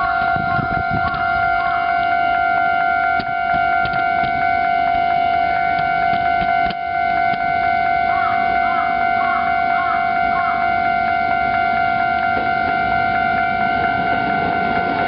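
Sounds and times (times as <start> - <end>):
level crossing alarm bell: 0.0 - 15.0.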